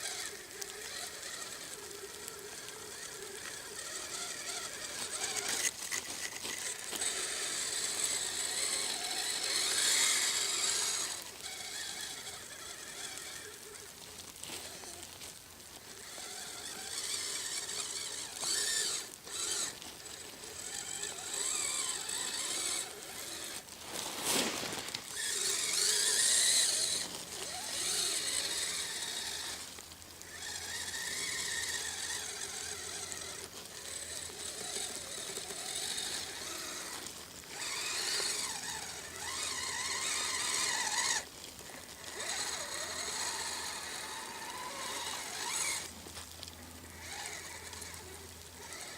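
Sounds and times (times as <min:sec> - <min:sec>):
electric drive whine: 0:00.0 - 0:48.9
steady hiss: 0:00.0 - 0:48.9.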